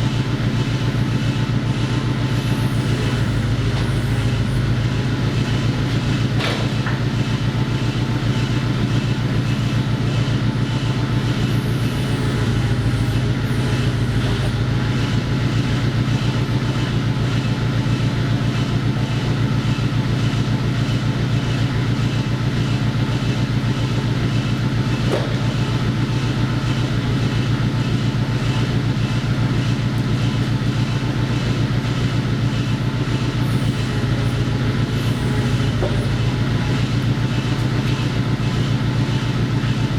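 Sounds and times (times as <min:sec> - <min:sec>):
machine motor droning: 0:00.0 - 0:18.6, 0:23.7 - 0:39.9.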